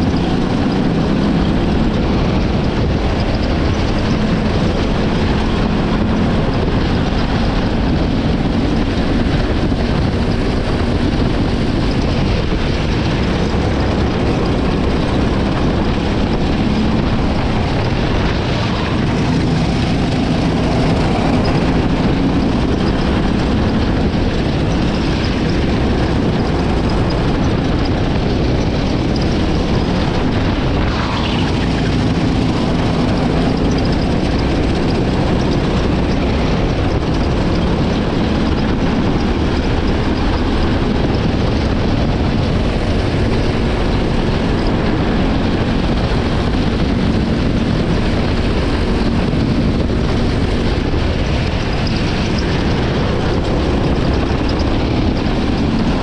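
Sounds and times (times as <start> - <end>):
go-kart engine running: 0.0 - 56.0
wind on microphone: 0.0 - 56.0.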